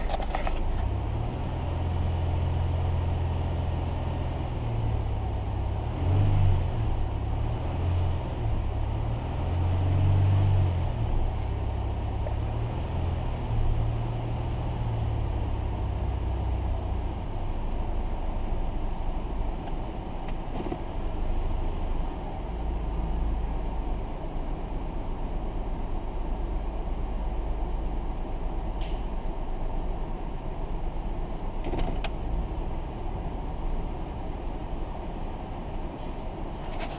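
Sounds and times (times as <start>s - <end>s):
car engine idling: 6.8s - 36.9s.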